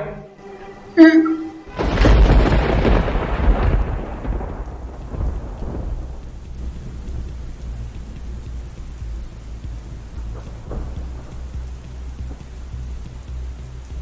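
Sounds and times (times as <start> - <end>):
steady rain: 0.0 - 14.0
thunderclap rumbling: 1.1 - 14.0
low rumble: 1.7 - 14.0.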